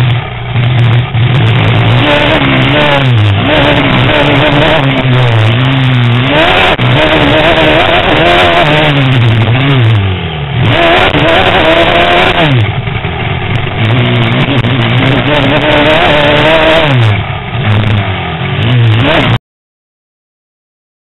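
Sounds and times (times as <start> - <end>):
motocross bike engine revving: 0.0 - 19.4.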